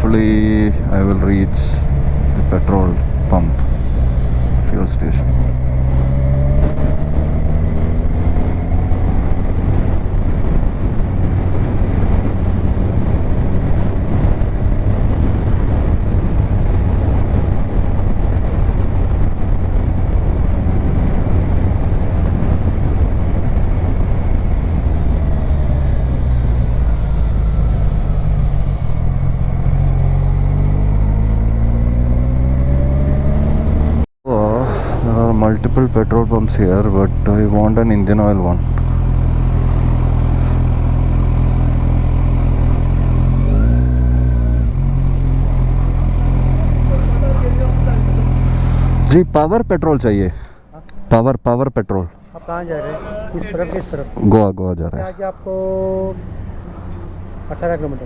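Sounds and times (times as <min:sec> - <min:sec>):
motorcycle engine running: 0:00.0 - 0:50.1
wind noise: 0:00.0 - 0:51.1.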